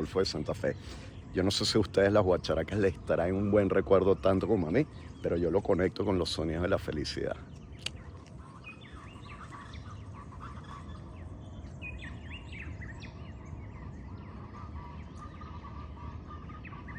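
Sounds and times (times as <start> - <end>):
birds calling: 0.0 - 16.9
low background hum: 0.0 - 16.9.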